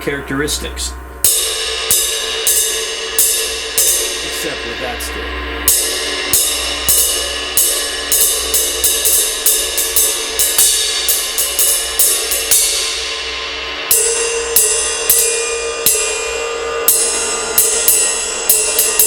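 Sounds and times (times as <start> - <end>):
ride cymbal struck with drumstick: 0.0 - 19.0.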